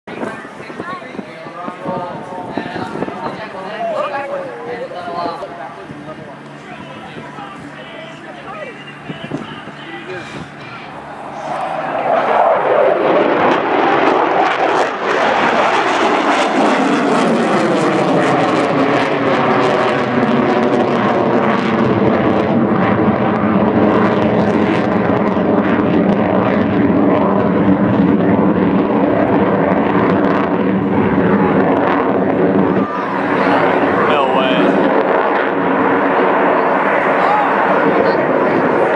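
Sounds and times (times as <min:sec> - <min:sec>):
jet roaring past: 0:00.1 - 0:38.9.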